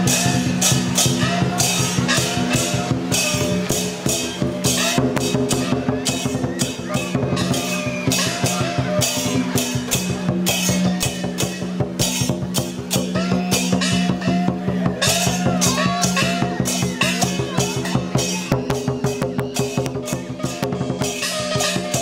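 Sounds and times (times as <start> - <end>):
cymbals clashing: 0.0 - 22.0
drums beating: 0.0 - 22.0
gongs with sliding pitch: 0.0 - 22.0.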